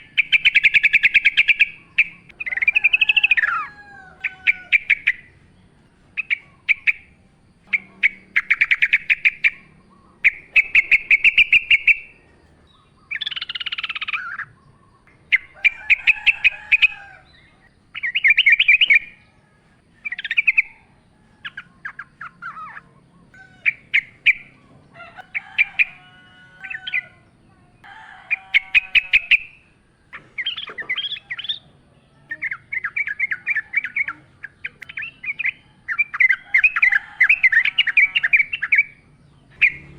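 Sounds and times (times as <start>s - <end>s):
bulbul singing chattering phrases: 0.0s - 39.9s.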